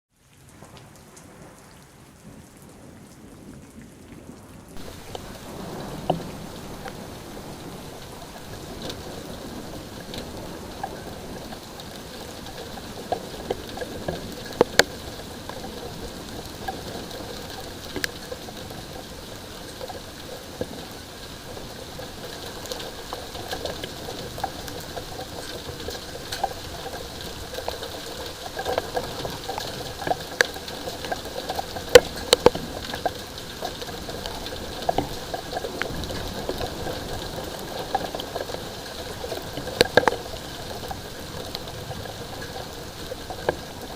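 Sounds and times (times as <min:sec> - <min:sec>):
light rain falling: 0:00.1 - 0:43.9
raindrops ticking on surface: 0:00.1 - 0:43.9.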